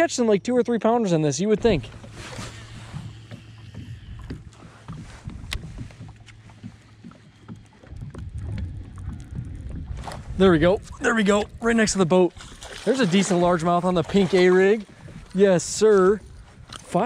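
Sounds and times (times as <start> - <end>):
low steady hum: 0.0 - 17.0
water lapping at hull: 0.2 - 17.0.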